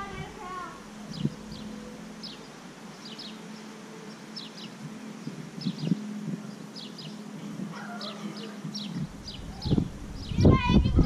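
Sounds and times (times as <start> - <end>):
bird chirping: 0.0 - 11.0
drone propellers humming: 0.0 - 11.0.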